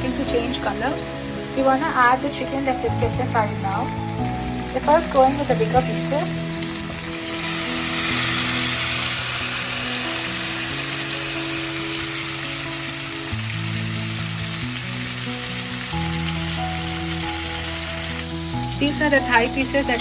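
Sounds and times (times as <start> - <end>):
background music with held notes: 0.0 - 20.0
chicken sizzling in oil: 0.0 - 20.0.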